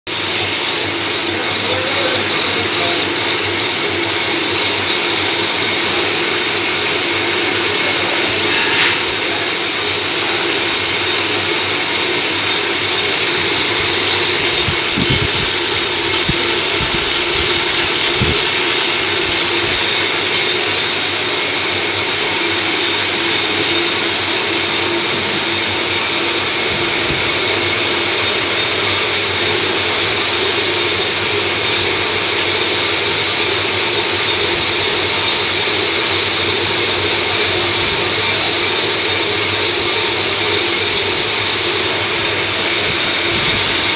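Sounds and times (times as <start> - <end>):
metal lathe whirring: 0.1 - 43.9.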